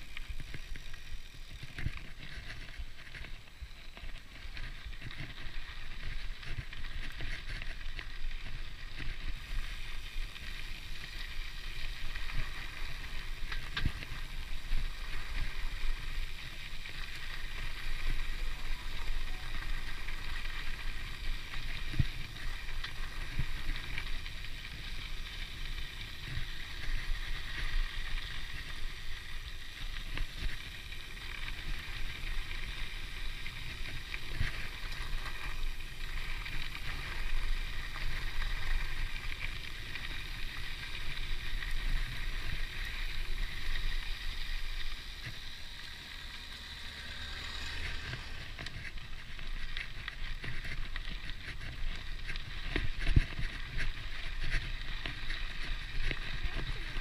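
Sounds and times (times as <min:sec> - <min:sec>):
bike tyres on dirt: 0:00.0 - 0:57.0
freewheel hub buzzing: 0:00.0 - 0:57.0
wind rumble on camera: 0:00.0 - 0:57.0.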